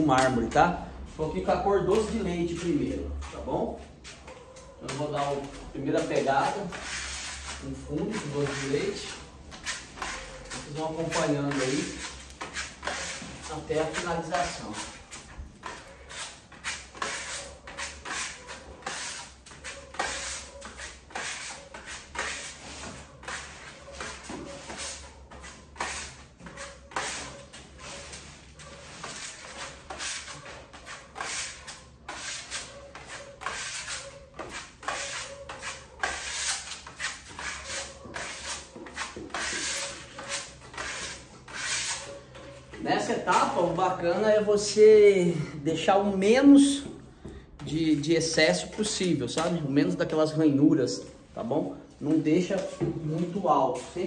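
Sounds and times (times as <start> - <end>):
trowel scraping plaster on wall: 1.3 - 44.9.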